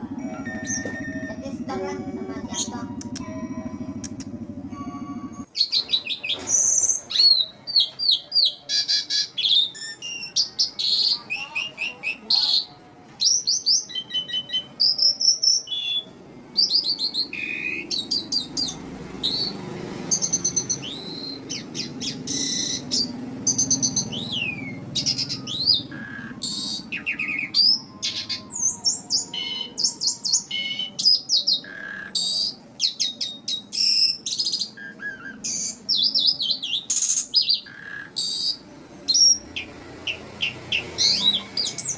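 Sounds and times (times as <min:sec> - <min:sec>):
starling singing: 0:00.0 - 0:41.9.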